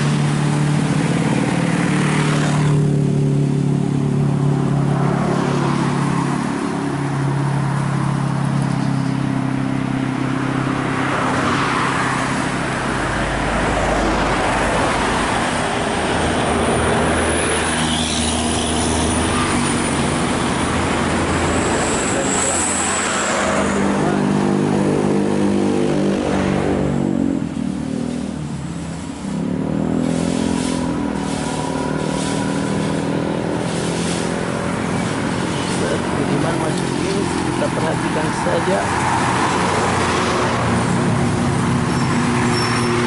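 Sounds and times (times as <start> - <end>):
cars passing: 0.0 - 43.0
diesel engines working under load: 0.0 - 43.0.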